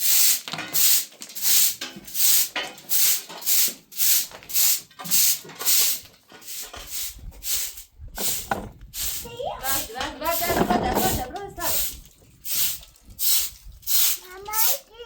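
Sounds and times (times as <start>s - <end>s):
bristles scraping a surface: 2.0s - 14.8s.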